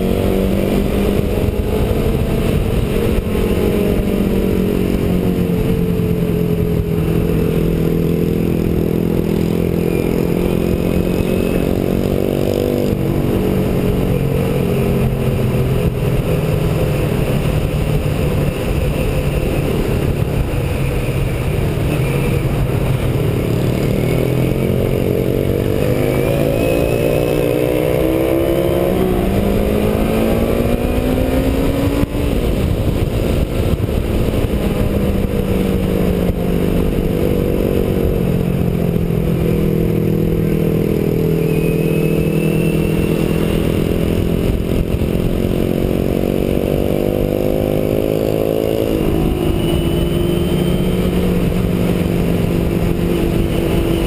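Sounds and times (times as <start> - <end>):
motorcycle engine: 0.0 - 54.0
wind rushing on microphone: 0.0 - 54.0.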